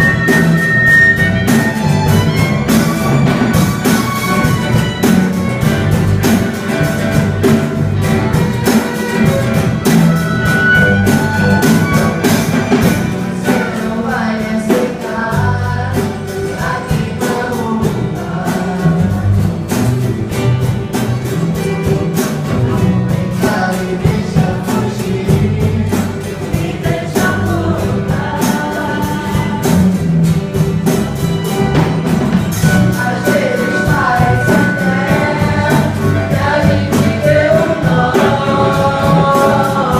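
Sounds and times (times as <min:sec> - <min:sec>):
band playing a song: 0:00.0 - 0:39.9.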